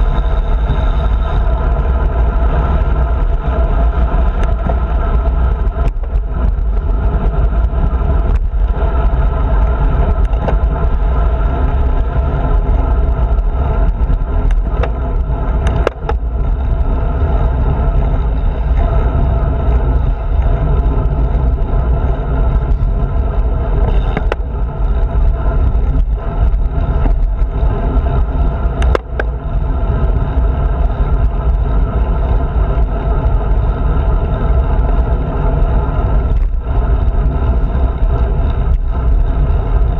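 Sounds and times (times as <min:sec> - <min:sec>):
rolling road noise: 0:00.0 - 0:39.9
wind noise: 0:00.0 - 0:39.9.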